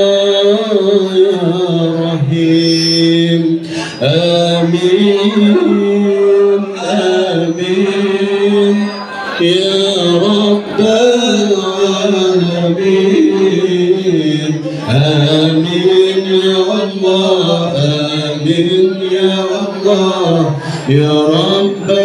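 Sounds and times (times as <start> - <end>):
voices chanting devotional song: 0.0 - 22.0.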